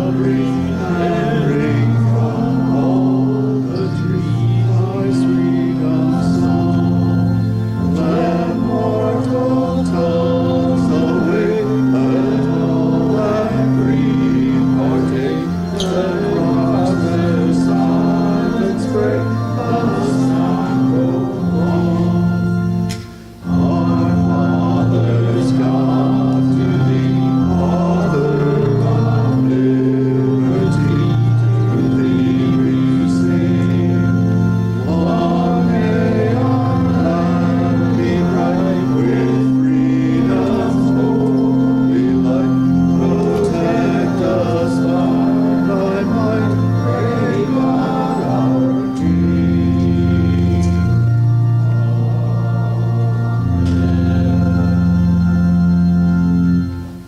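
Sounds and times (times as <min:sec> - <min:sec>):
organ playing sustained chords: 0:00.0 - 0:57.0.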